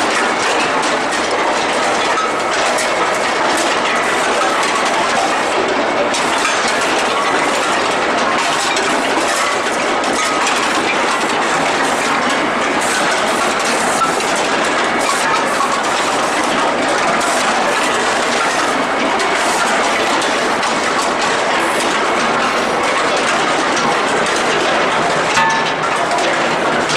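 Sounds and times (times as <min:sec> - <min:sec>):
forging line running noise: 0:00.0 - 0:26.9
metallic rattle and clatter: 0:00.0 - 0:26.9.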